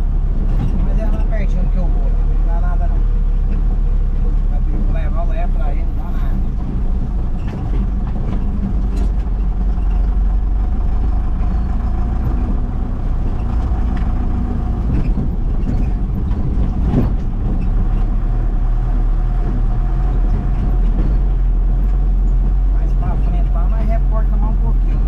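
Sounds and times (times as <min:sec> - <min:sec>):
vehicle engine rumbling: 0:00.0 - 0:25.0
knocks and rattles from bumps: 0:00.1 - 0:25.0.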